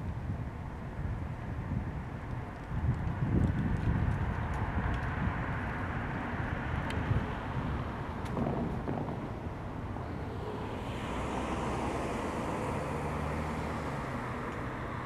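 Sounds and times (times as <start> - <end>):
low engine hum: 0.0 - 15.0
outdoor rumble: 0.0 - 15.0
wind buffeting microphone: 0.0 - 15.0.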